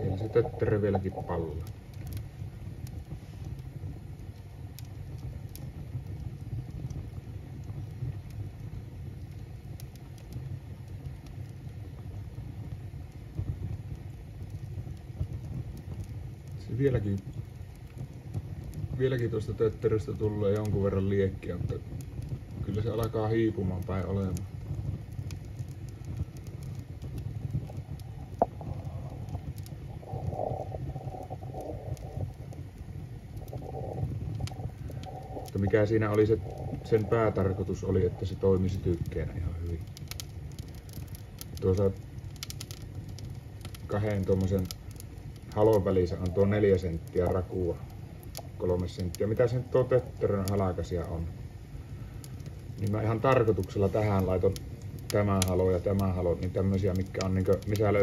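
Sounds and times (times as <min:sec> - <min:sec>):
fire rumbling: 0:00.0 - 0:58.0
wood crackling: 0:00.0 - 0:58.0.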